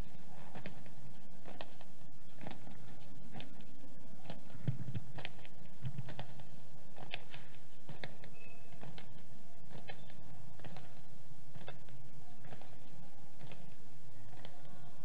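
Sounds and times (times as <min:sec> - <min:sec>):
low steady hum: 0:00.0 - 0:15.0
marching footsteps on pavement: 0:00.0 - 0:15.0.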